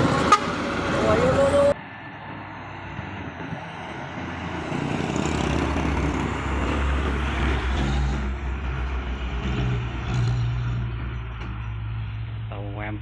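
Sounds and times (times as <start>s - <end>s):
truck diesel engine passing: 0.0s - 12.7s
tyre and road noise: 0.0s - 13.0s.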